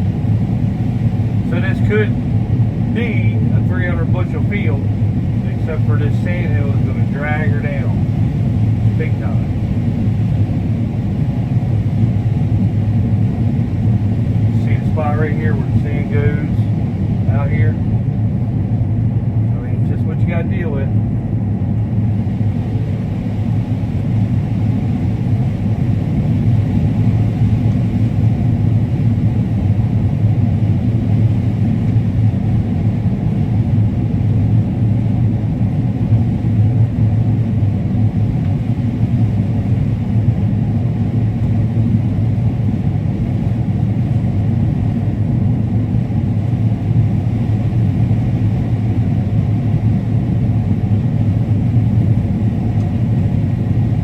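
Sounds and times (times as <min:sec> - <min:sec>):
combine harvester running: 0:00.0 - 0:10.1, 0:13.0 - 0:54.0.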